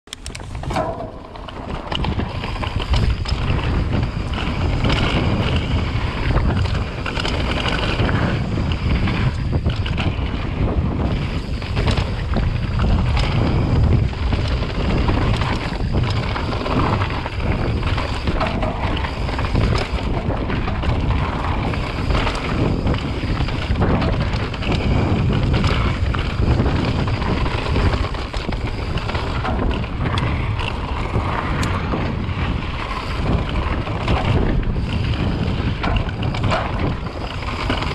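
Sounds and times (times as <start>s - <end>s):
bike rattles and knocks: 0.1s - 37.9s
bike tyres on dirt trail: 0.1s - 37.9s
wind buffeting microphone: 0.1s - 37.9s.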